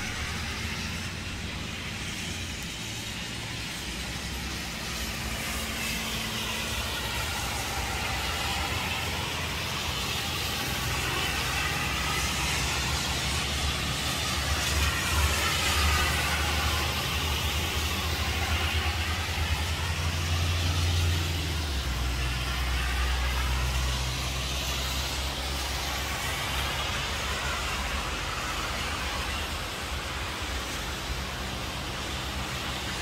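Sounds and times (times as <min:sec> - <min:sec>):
low traffic rumble: 0:00.0 - 0:33.0
tyres hissing on wet road: 0:00.0 - 0:33.0.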